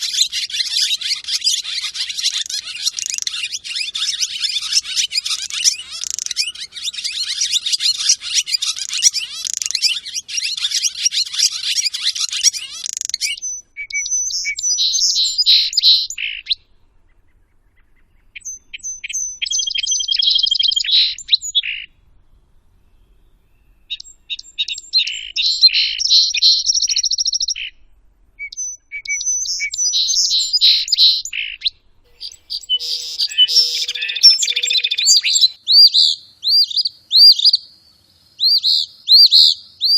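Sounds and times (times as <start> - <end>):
bird song: 0.0 - 39.9.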